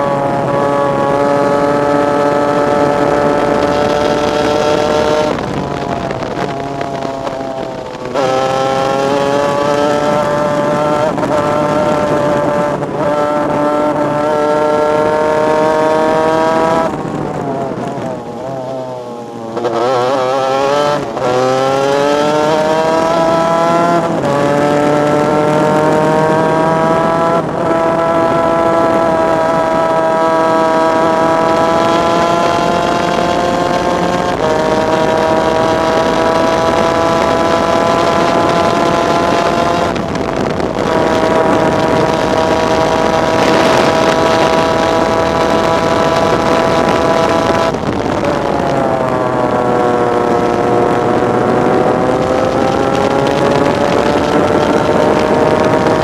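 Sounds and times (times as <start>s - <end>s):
two-stroke engine accelerating: 0.0s - 56.0s.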